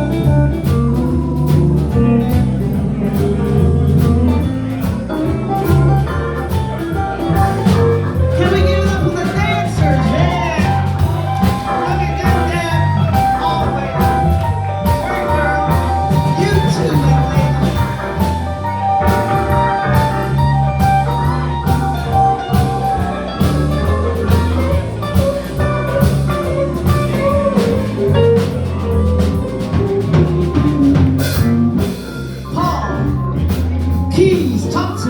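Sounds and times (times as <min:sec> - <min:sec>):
bass guitar: 0:00.0 - 0:35.0
drum kit beat: 0:00.0 - 0:35.0
lead guitar with bent notes: 0:00.0 - 0:35.0.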